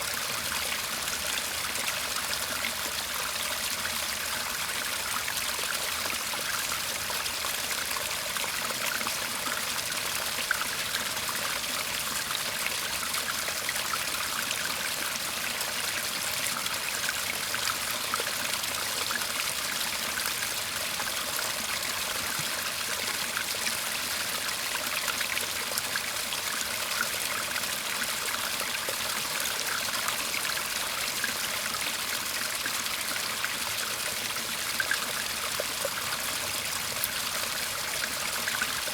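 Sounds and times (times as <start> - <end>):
stream babbling: 0.1 - 38.9.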